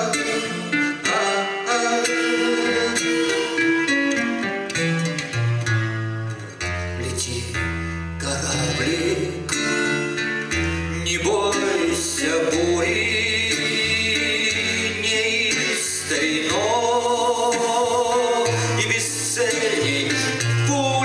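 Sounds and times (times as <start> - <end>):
man singing: 0.0 - 4.2, 7.0 - 10.1, 10.7 - 21.0
acoustic guitar: 0.0 - 21.0.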